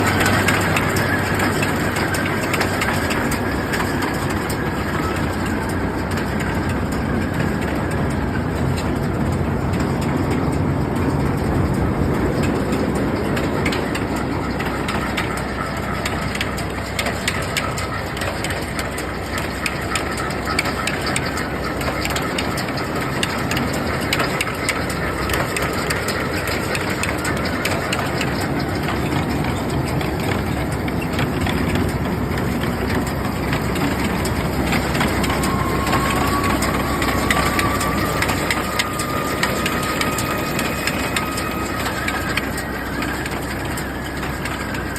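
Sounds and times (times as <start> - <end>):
baler mechanical clatter: 0.0 - 44.9
rapid rattling clicks: 0.0 - 44.9
tractor engine: 0.0 - 44.9.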